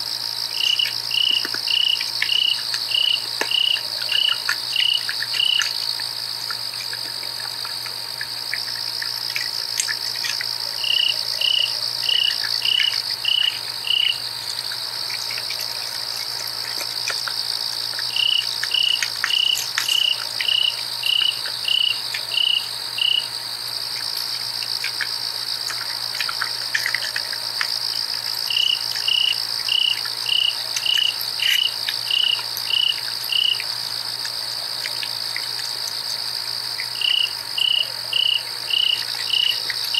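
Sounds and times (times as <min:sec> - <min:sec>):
cricket chirping call: 0:00.0 - 0:39.9
crickets trilling: 0:00.0 - 0:39.9.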